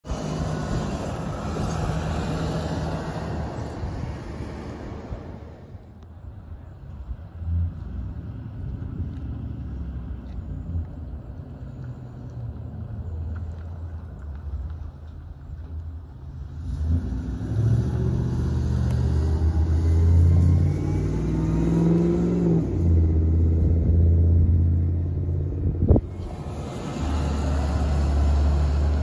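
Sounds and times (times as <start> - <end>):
bus engine rumble: 0.0 - 29.0.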